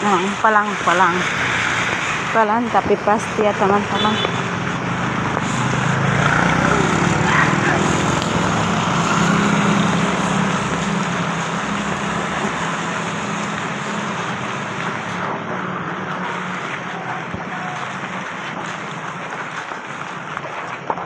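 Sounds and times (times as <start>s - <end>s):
heavy rain hissing: 0.0s - 21.0s
traffic: 0.0s - 21.0s
vehicle engine humming: 0.0s - 21.0s.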